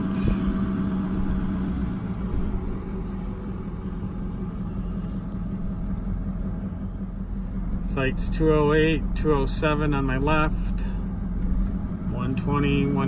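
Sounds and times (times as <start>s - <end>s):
low hum: 0.0s - 13.0s
vehicle engine and tyres rumbling: 0.0s - 13.0s.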